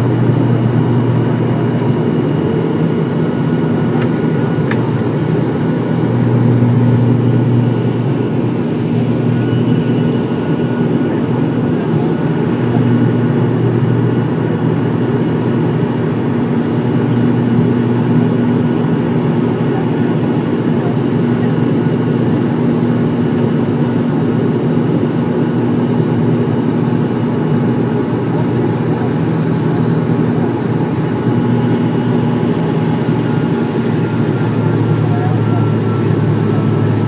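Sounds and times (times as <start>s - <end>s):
propeller engines droning: 0.0s - 37.0s.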